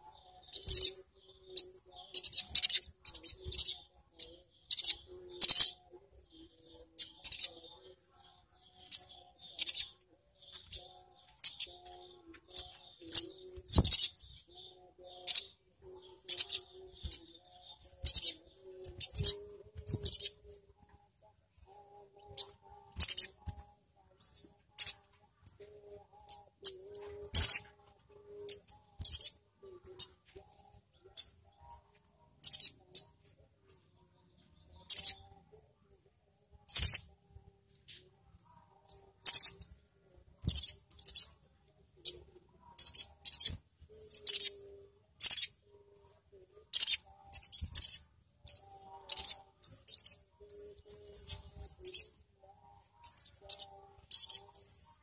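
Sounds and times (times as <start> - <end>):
high-pitched bird chirps: 0.0 - 20.6, 21.6 - 33.3, 34.6 - 35.5, 36.4 - 37.1, 38.8 - 45.7, 46.6 - 55.0.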